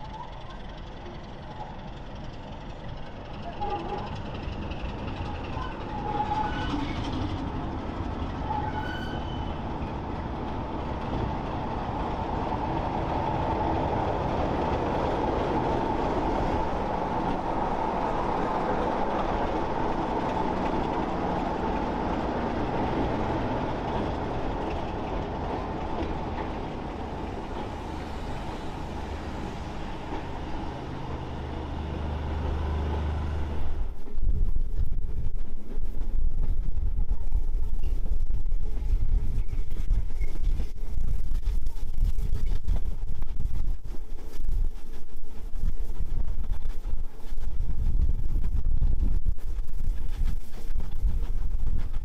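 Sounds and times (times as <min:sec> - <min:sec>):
diesel locomotive engine: 0:00.0 - 0:52.0
train wheel noise: 0:00.0 - 0:52.0.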